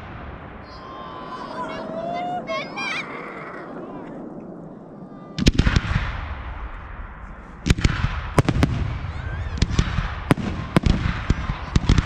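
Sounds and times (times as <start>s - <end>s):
rolling echo: 0.0s - 12.0s.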